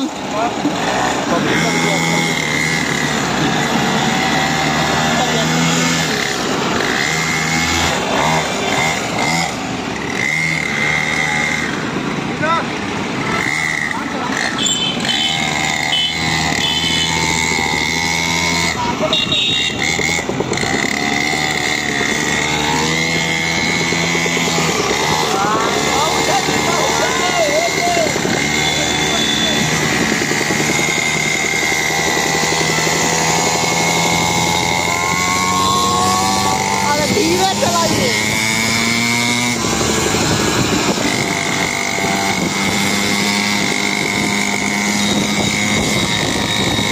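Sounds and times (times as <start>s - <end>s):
dirt bike engine buzzing: 0.0s - 46.9s.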